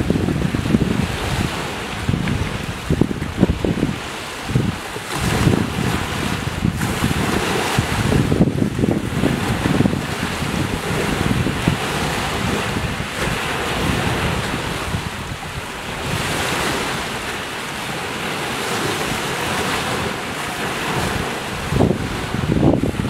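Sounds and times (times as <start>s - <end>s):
small waves lapping on shore: 0.0s - 23.0s
wind buffeting microphone: 0.0s - 23.0s.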